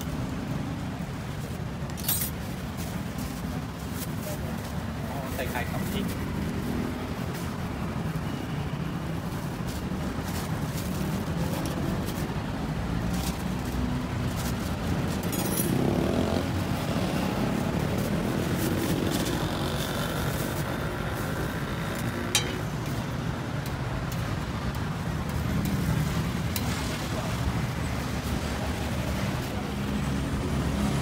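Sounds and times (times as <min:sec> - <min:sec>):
low street rumble: 0:00.0 - 0:31.0.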